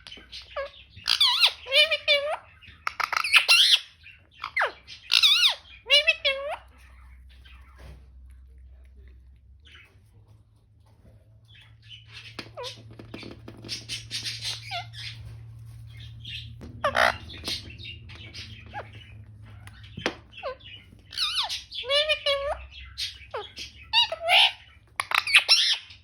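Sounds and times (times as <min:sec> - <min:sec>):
parakeet squawk: 0:00.0 - 0:07.9, 0:11.5 - 0:26.0
parakeet chattering and clicking: 0:00.0 - 0:10.0, 0:11.4 - 0:26.0.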